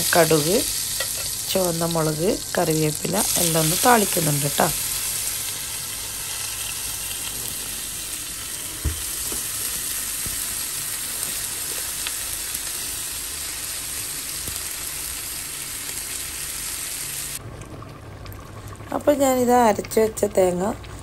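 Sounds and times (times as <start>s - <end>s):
seeds sizzling in hot oil: 0.0s - 17.4s.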